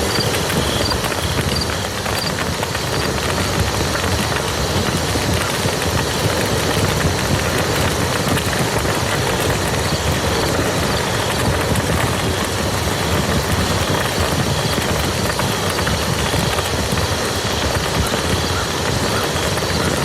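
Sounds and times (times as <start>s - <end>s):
rain falling on mud: 0.0s - 20.0s.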